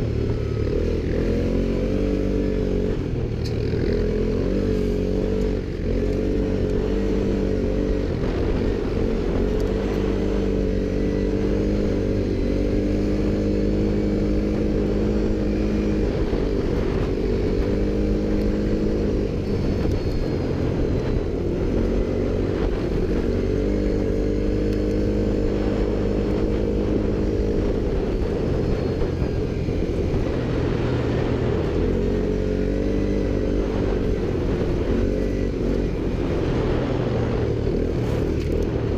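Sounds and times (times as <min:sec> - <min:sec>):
quad bike engine revving: 0:00.0 - 0:38.9.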